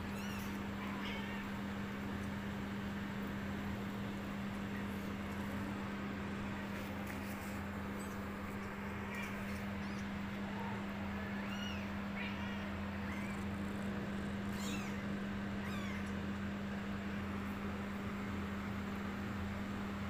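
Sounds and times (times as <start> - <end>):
kittens mewing: 0.0 - 16.3
steady low hum: 0.0 - 20.0.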